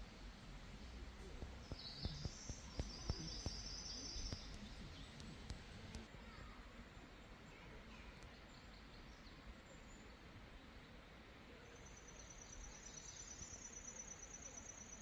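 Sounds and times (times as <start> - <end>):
faint bird chirps: 1.2 - 15.0.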